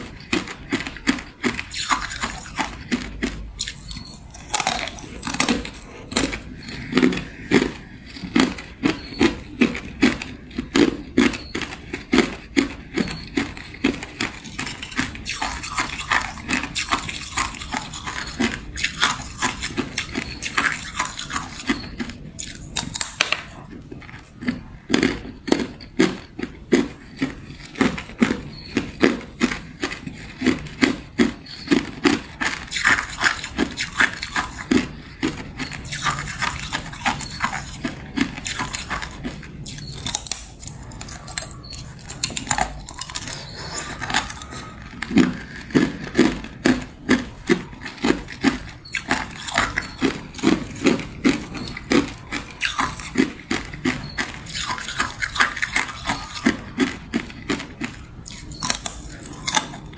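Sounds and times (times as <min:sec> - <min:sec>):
teeth crunching ice: 0:00.0 - 0:59.9.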